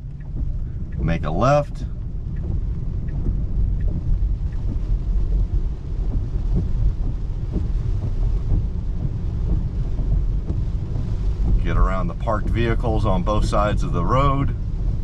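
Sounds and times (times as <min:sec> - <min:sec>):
faint raindrop ticks: 0:00.0 - 0:15.0
tyres rumbling on wet road: 0:00.0 - 0:15.0.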